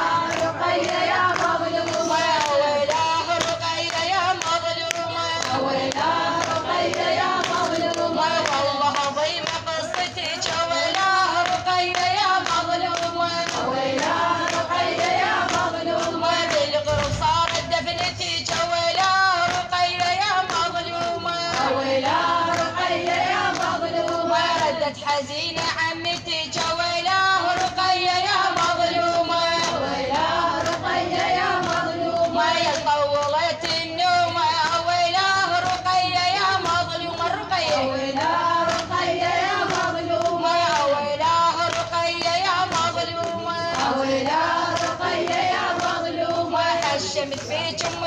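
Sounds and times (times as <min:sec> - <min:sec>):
woman chanting unaccompanied: 0:00.0 - 0:48.0.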